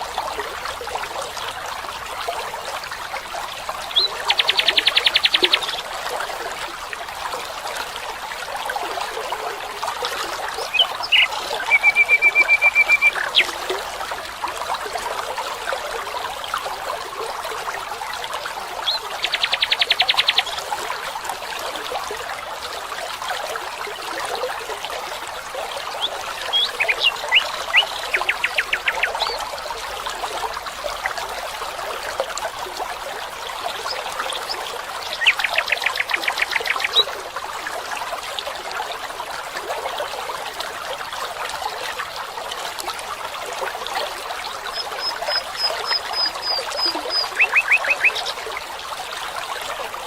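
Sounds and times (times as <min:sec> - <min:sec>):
water trickling: 0:00.0 - 0:50.0.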